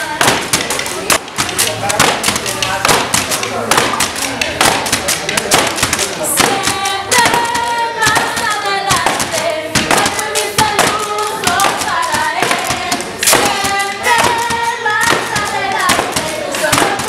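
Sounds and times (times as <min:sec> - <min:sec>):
group of voices singing: 0:00.0 - 0:17.0
homemade rattling percussion: 0:00.0 - 0:17.0.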